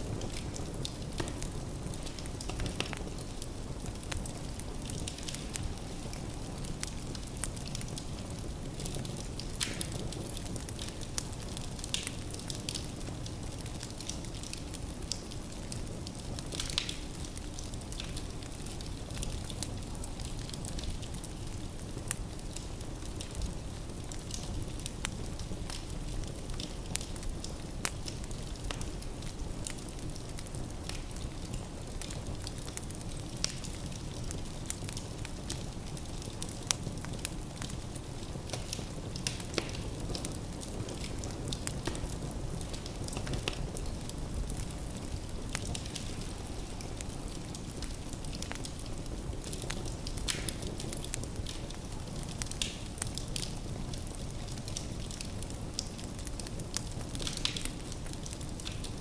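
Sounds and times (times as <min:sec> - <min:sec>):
fire burning in fireplace: 0:00.0 - 0:59.0
logs crackling and popping: 0:00.0 - 0:59.0.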